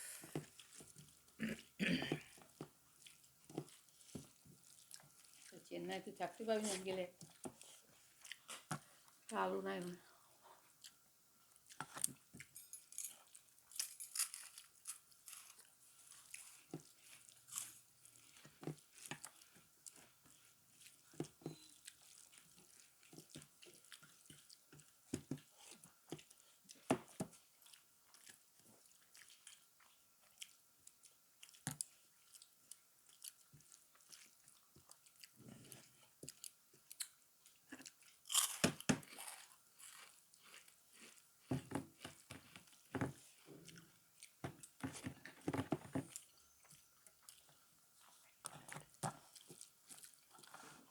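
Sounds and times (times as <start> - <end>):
person chewing food: 0.0 - 5.6, 7.2 - 9.4, 10.0 - 50.9.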